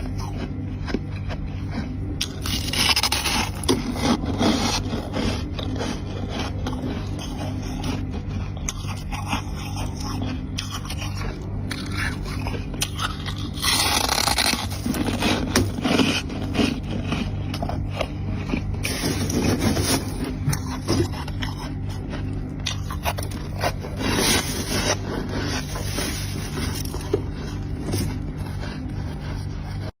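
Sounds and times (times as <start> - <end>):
frost chunks being chewed: 0.0 - 29.9.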